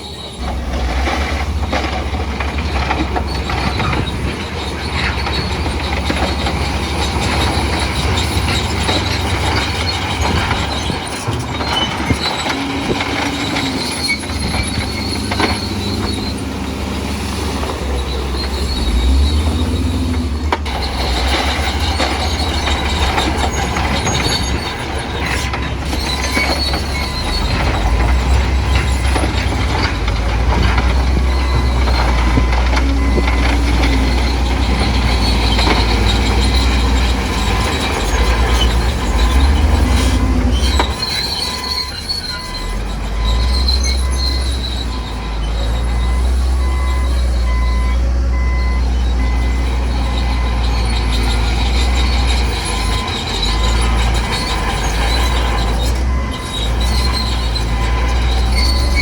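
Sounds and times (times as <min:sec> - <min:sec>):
crawler tracks squealing: 0:00.0 - 0:59.0
diesel engine humming: 0:00.0 - 0:59.0.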